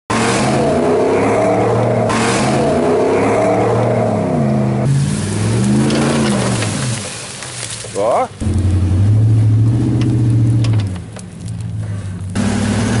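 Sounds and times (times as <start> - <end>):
truck engines revving: 0.1 - 13.0.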